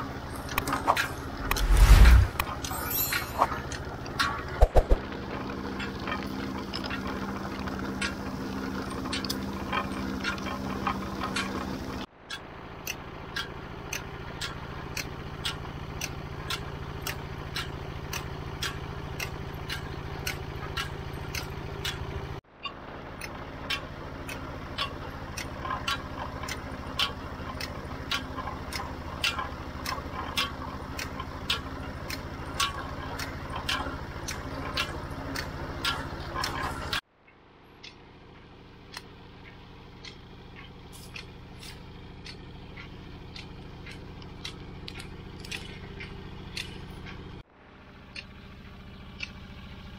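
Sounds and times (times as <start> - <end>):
sugarcane crusher humming: 0.0 - 37.0, 37.7 - 49.9
sharp mechanical clicks: 0.4 - 5.1, 10.0 - 47.4, 48.0 - 49.9.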